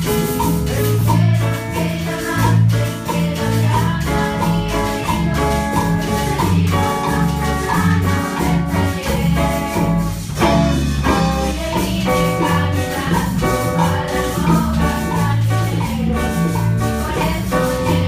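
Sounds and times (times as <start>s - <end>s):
drum kit: 0.0s - 18.0s
group singing: 0.0s - 18.0s
hand drums: 0.0s - 18.0s
melodicas playing: 0.0s - 18.0s
steady bass line: 0.0s - 18.0s.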